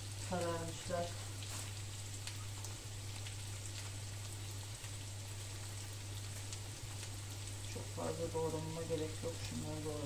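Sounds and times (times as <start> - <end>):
potatoes sizzling in a pan: 0.0 - 10.0.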